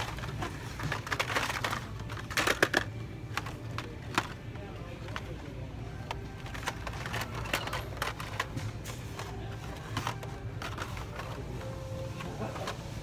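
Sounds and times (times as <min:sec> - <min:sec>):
plastic packages clacking: 0:00.0 - 0:13.0.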